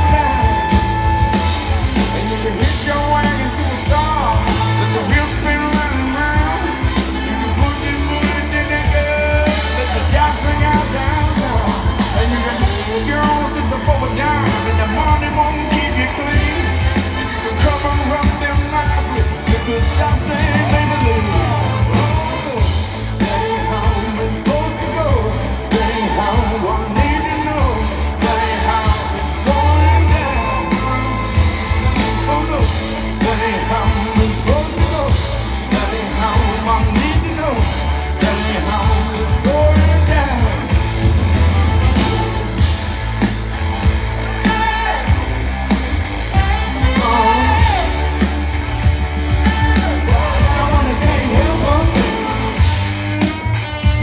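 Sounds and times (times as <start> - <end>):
lead singer: 0.0 - 54.0
live rock band: 0.0 - 54.0.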